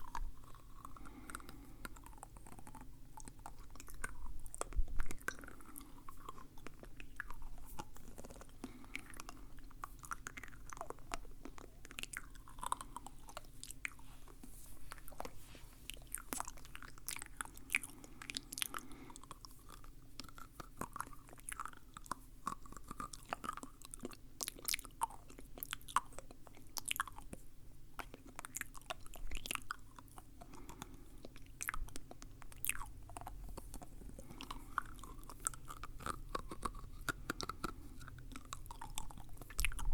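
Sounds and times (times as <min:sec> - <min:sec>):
wet mouth clicks and smacks: 0:00.0 - 0:39.9.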